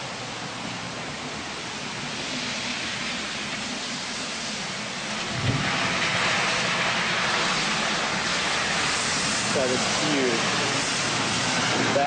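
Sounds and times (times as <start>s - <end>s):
storm wind and rain hiss: 0.0s - 12.0s.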